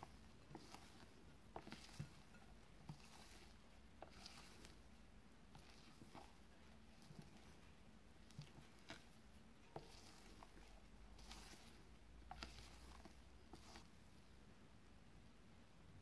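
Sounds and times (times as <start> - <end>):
spatula folding batter: 0.0 - 14.7
low room noise: 0.0 - 16.0.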